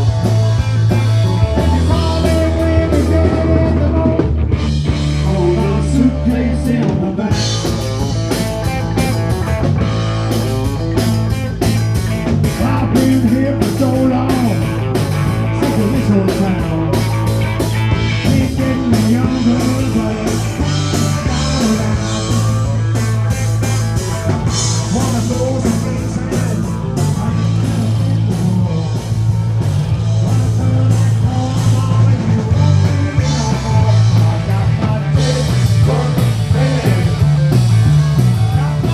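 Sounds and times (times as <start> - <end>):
rock band playing: 0.0 - 38.9
person singing: 1.0 - 9.2, 12.4 - 23.8, 24.4 - 38.9.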